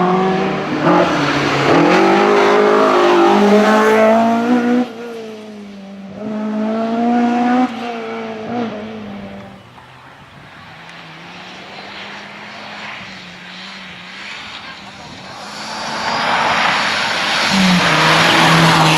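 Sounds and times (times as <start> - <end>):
rally car engine revving hard: 0.0 - 9.6, 12.4 - 18.9.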